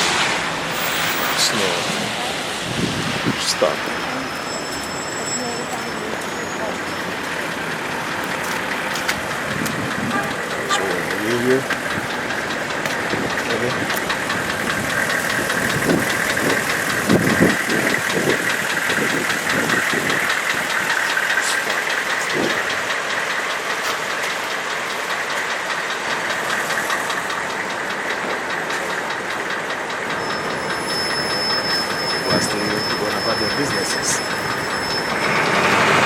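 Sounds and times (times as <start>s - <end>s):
vehicle engine running: 0.0s - 36.0s
fast mechanical ticking: 5.7s - 36.0s.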